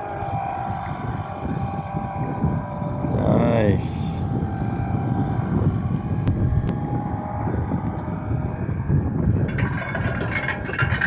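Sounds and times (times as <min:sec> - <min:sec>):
faint boat motor hum: 0:00.0 - 0:11.0
wind buffeting microphone: 0:00.0 - 0:11.0.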